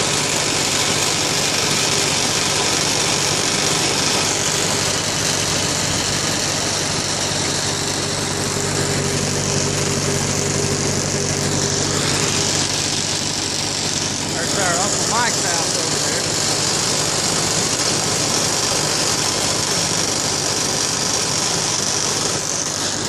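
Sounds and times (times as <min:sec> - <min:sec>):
broad rushing noise: 0:00.0 - 0:23.0
tractor engine running: 0:00.0 - 0:23.0.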